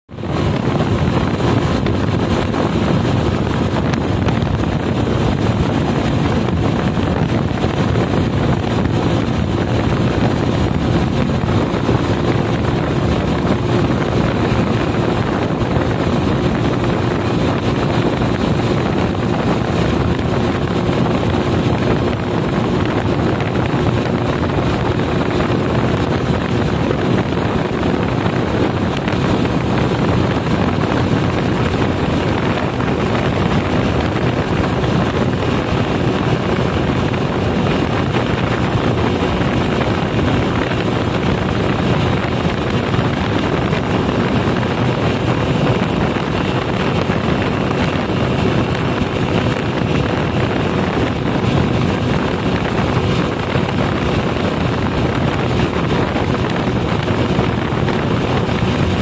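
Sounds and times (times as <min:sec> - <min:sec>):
wind rushing over microphone: 0:00.0 - 0:59.0
motorcycle engine humming: 0:00.1 - 0:59.0.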